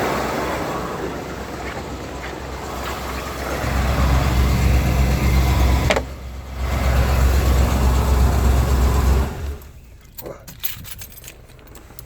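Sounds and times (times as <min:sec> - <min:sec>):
van engine low rumble: 0:00.0 - 0:12.0.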